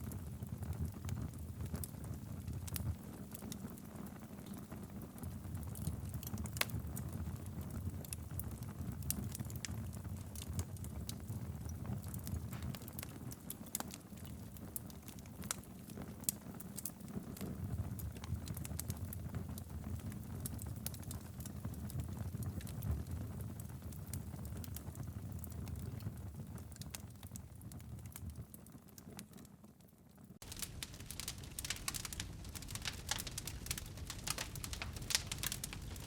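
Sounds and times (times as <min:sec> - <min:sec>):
wood fire crackling: 0:00.0 - 0:29.6, 0:30.4 - 0:36.0.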